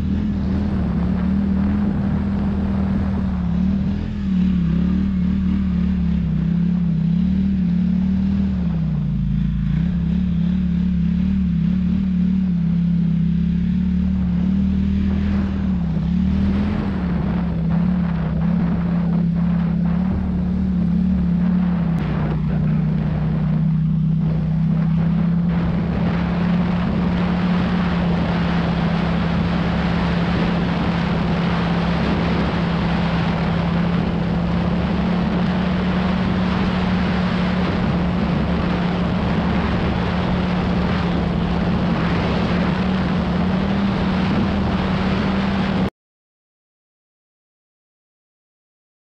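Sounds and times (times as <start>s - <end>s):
atv engine running: 0.0s - 45.9s
wind noise on microphone: 0.0s - 45.9s.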